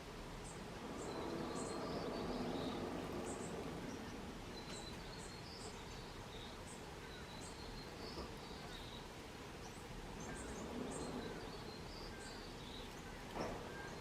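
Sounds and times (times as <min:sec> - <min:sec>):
birds splashing in water: 0:00.0 - 0:14.0.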